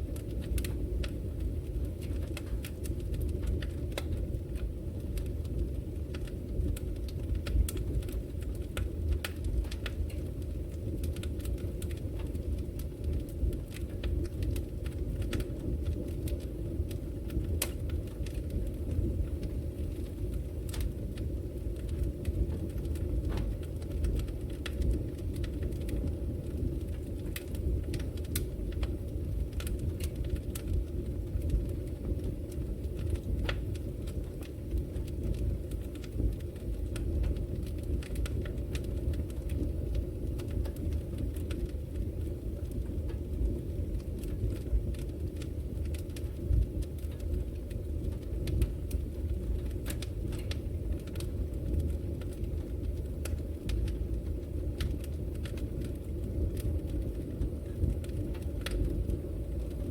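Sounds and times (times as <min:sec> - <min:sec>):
fire crackles and pops: 0:00.0 - 0:59.9
low rumble of flames: 0:00.0 - 0:59.9.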